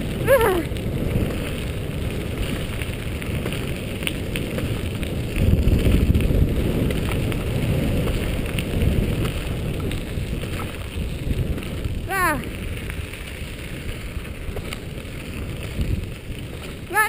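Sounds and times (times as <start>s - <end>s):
wheels rolling on path: 0.0s - 17.0s
wind on microphone: 0.0s - 17.0s.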